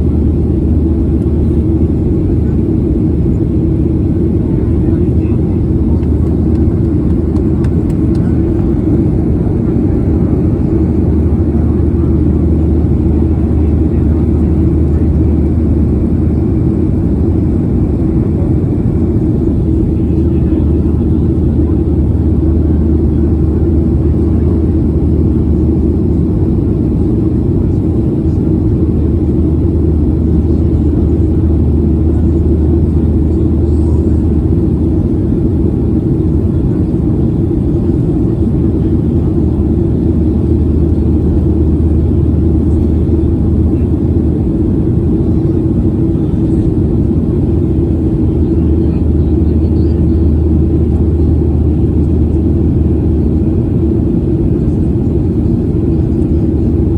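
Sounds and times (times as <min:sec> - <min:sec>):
jet engine and airflow drone: 0:00.0 - 0:56.9.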